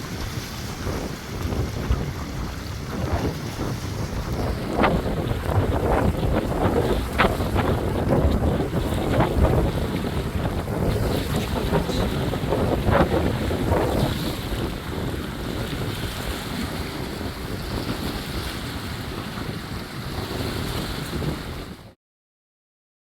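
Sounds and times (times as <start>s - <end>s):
waves splashing: 0.0s - 22.0s
wind buffeting microphone: 0.0s - 22.0s.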